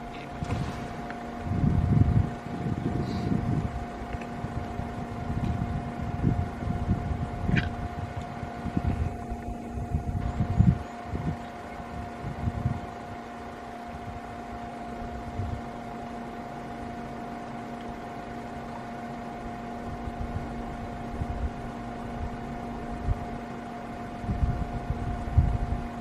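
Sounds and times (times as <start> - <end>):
wind rumbling on microphone: 0.0 - 13.2, 13.8 - 15.8, 19.8 - 26.0
steady mechanical hum: 0.0 - 26.0.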